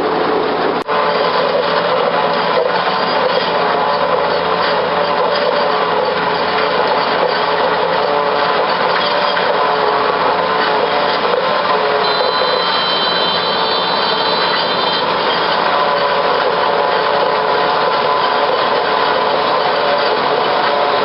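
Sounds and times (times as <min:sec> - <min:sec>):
harvester machine running: 0:00.0 - 0:21.0.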